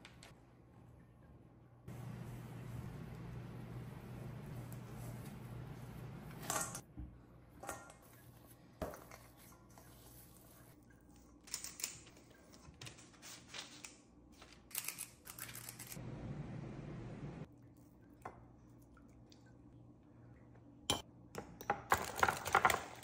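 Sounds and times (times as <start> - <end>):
low steady hum: 0.1 - 13.1, 15.8 - 21.4.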